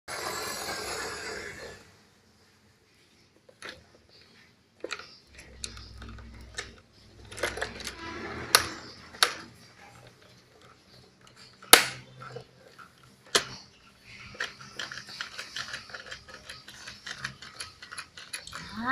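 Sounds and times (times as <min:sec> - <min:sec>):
toy excavator clicks and knocks: 0:03.4 - 0:18.9.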